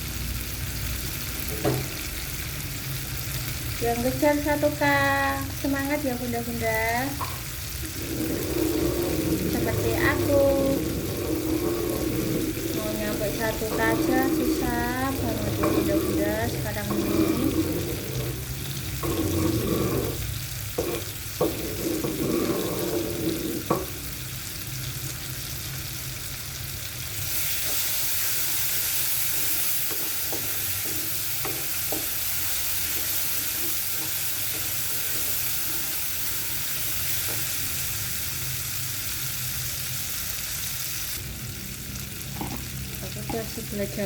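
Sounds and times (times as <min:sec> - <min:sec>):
food sizzling in a wok: 0:00.0 - 0:44.0.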